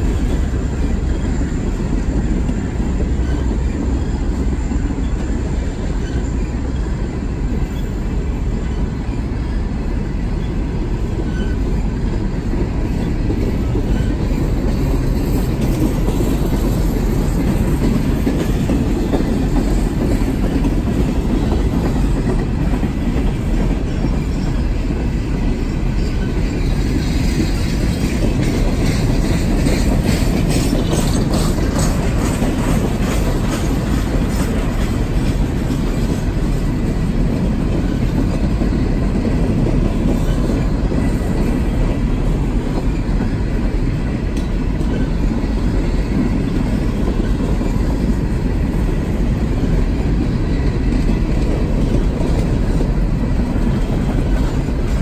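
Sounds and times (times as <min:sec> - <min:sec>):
steel wheels clattering on rails: 0:00.0 - 0:55.0.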